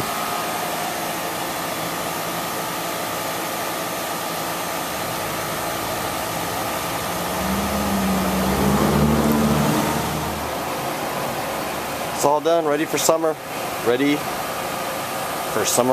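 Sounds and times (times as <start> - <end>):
low engine-like hum: 0.0 - 13.6
condenser fan rushing: 0.0 - 15.9.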